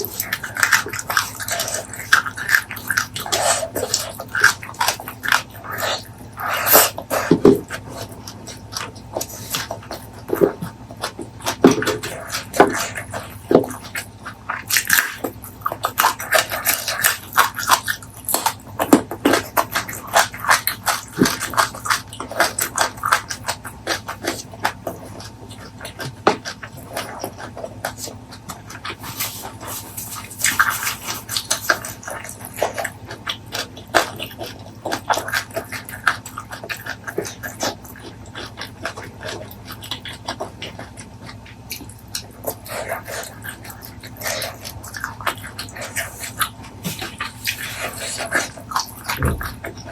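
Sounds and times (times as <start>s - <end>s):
chewing with wet mouth smacks: 0.0s - 49.9s.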